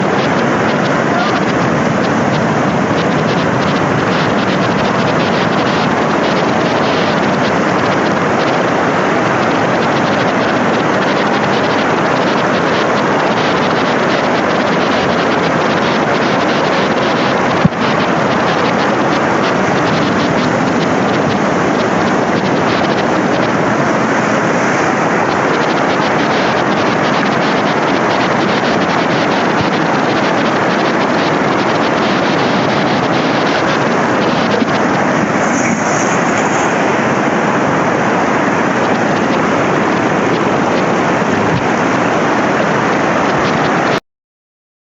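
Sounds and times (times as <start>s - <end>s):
wind and sea water rushing: 0.0s - 44.0s.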